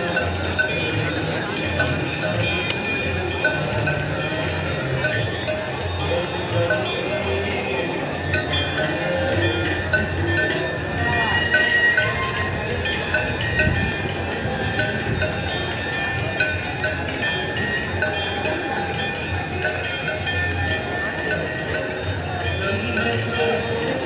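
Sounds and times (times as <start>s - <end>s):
hand bells ringing: 0.0s - 24.0s
voices: 0.0s - 24.0s.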